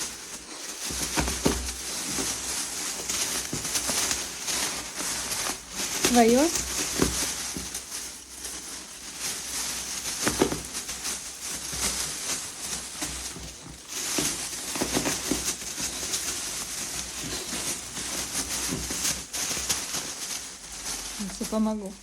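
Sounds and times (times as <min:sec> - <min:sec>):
dog tearing at packaging: 0:00.0 - 0:22.0.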